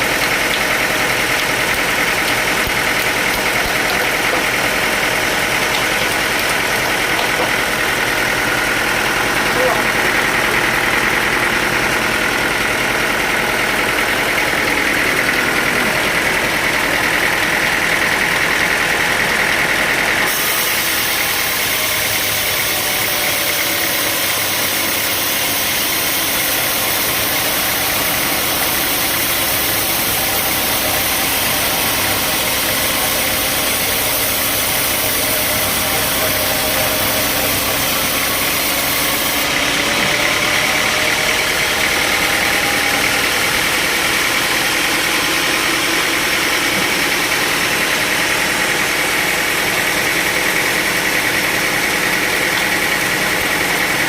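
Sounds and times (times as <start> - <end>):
engine note: 0.0 - 54.0
sawmill machinery running: 0.0 - 54.0.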